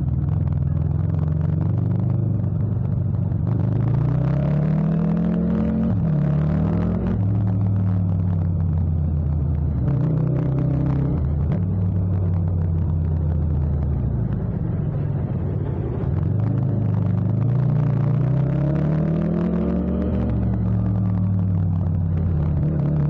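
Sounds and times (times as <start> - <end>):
motorcycle engine: 0.0 - 23.0.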